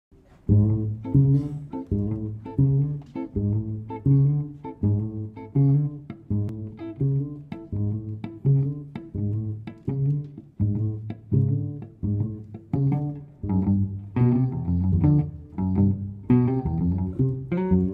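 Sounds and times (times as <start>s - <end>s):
double bass and guitar jazz: 0.2s - 17.9s.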